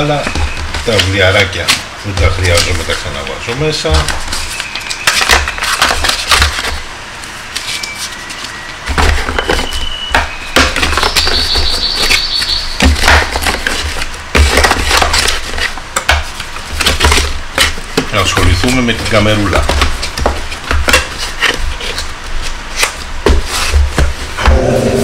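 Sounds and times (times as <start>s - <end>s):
paper and cardboard rustling: 0.0s - 25.0s.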